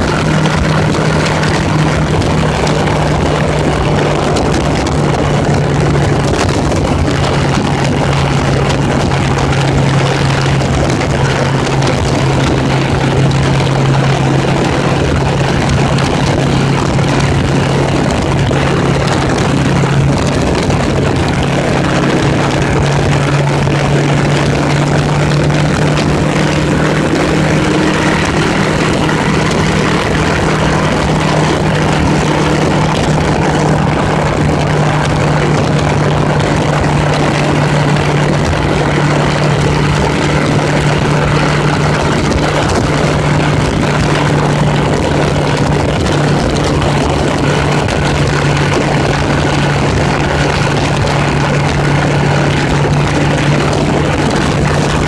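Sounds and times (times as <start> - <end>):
motorcycle engine cruising: 0.0 - 55.0
wind rush: 0.0 - 55.0.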